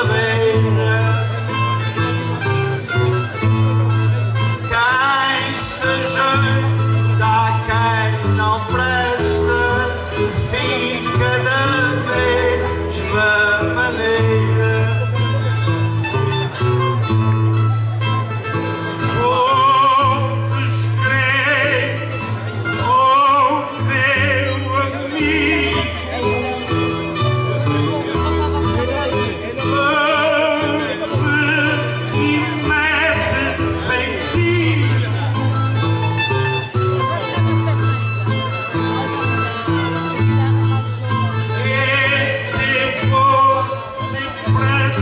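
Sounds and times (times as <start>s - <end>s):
man singing: 0.0s - 16.6s, 18.5s - 45.0s
acoustic guitars strumming chords: 0.0s - 45.0s
guitar picking wavering melody: 0.0s - 45.0s.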